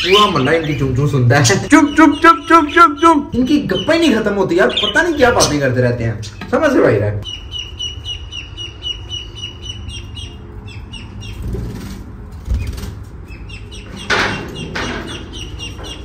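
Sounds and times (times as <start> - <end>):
budgerigars chirping: 0.0 - 11.8, 12.5 - 16.0.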